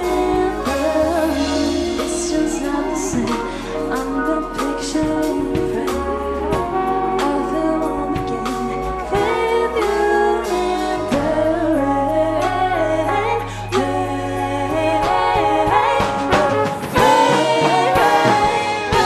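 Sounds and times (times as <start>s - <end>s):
keyboard: 0.0s - 19.0s
person singing: 0.0s - 19.0s.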